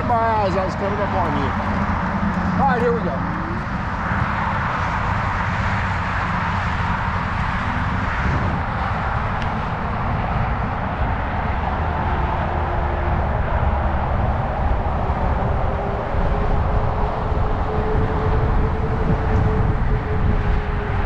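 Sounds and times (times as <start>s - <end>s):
tyres rumbling over trail: 0.0s - 21.0s
wind rushing over microphone: 0.0s - 21.0s.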